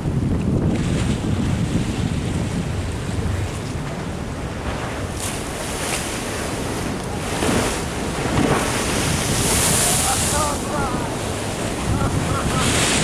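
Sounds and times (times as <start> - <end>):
surf washing against a sea wall: 0.0 - 13.0
wind buffeting microphone: 0.0 - 13.0.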